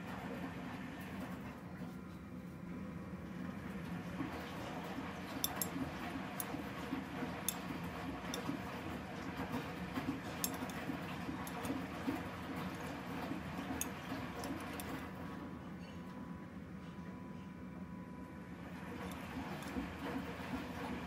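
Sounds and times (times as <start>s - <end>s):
washing machine humming and rumbling: 0.0s - 21.0s.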